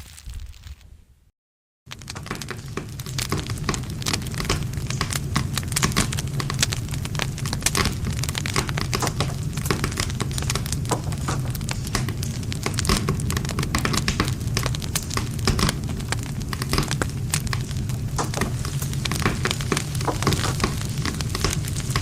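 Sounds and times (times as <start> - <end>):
campfire crackling and popping: 1.9 - 22.0.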